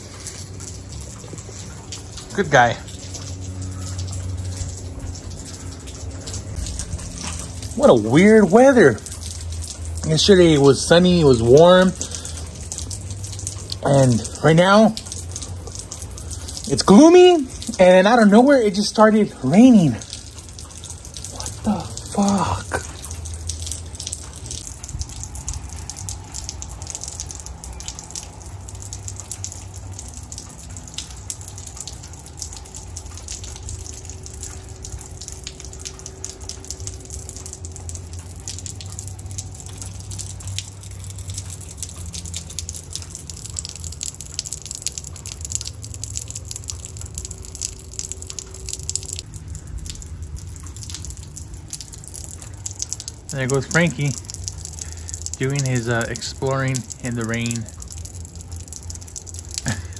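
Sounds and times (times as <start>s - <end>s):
light rain dripping: 0.0s - 59.9s
low steady rumble: 0.0s - 59.9s.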